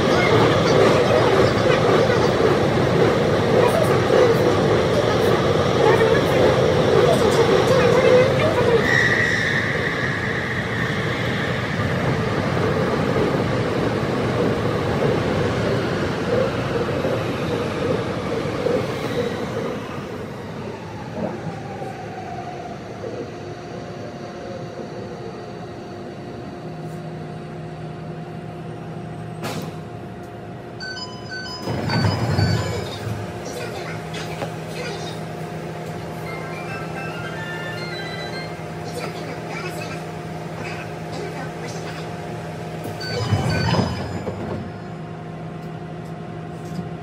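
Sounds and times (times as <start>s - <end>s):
electric train rumbling in tunnel: 0.0s - 47.0s.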